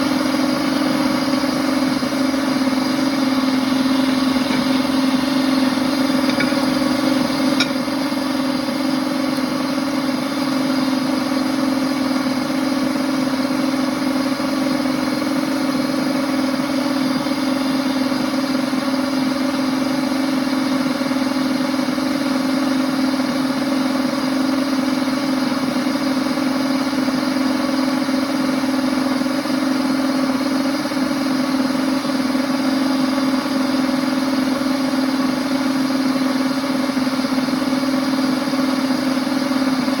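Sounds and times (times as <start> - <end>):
blender motor humming: 0.0 - 40.0.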